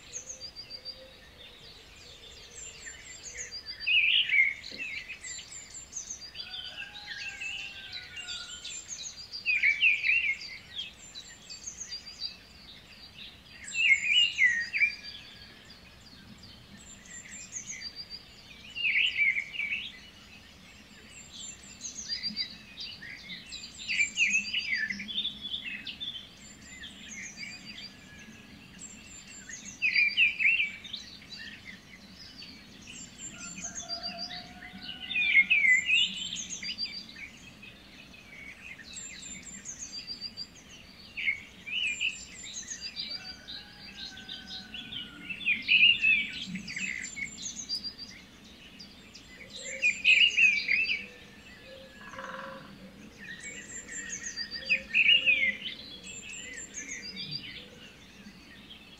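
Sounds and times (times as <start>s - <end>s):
birds chirping and trilling: 0.0s - 58.9s.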